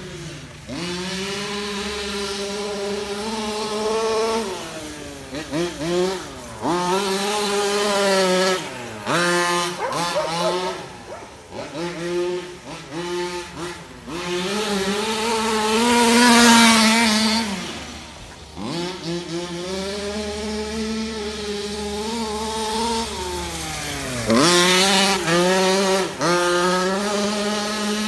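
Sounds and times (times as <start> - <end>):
toy truck two-stroke engine revving: 0.0 - 28.0.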